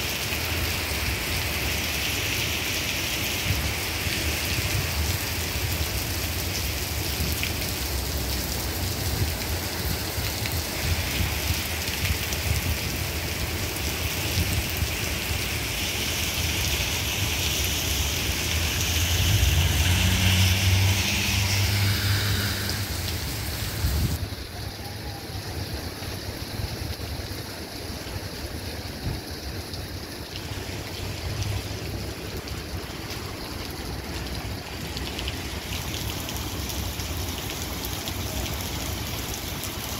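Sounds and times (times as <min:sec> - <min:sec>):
heavy rain on wet street: 0:00.0 - 0:39.9
car driving through water: 0:00.1 - 0:39.9.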